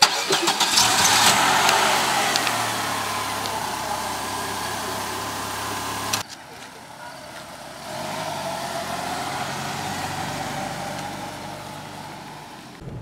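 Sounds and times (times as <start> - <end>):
car engine driving off: 0.0 - 13.0.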